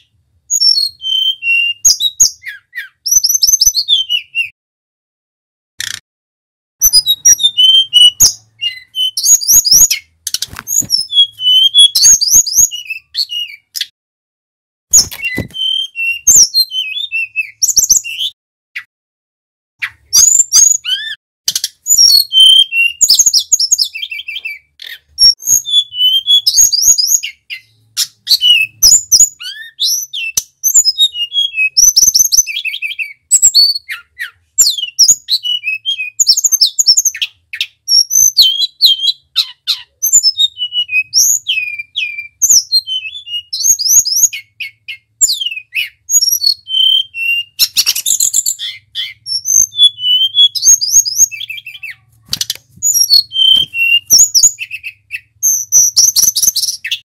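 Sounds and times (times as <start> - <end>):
bird singing whistled notes and trills: 0.0 - 4.6, 6.8 - 13.9, 14.9 - 18.9, 19.8 - 57.0.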